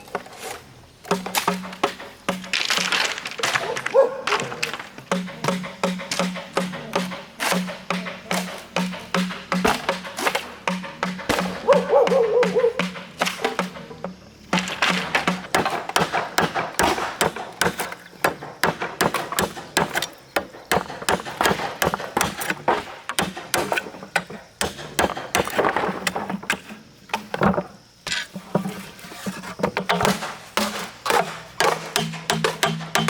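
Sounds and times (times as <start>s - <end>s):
sharp knocks of hand tools: 1.0s - 2.9s, 4.3s - 27.3s, 29.7s - 33.0s.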